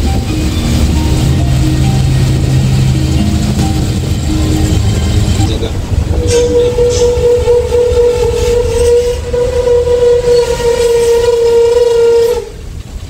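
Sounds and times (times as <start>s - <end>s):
low rumble: 0.0s - 11.4s
long steady horn note: 0.0s - 12.8s.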